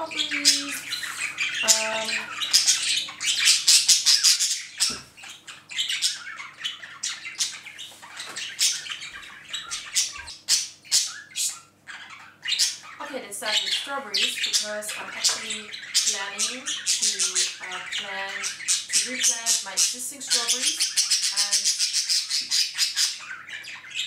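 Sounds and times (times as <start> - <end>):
pet birds squawking and chirping: 0.0 - 24.0.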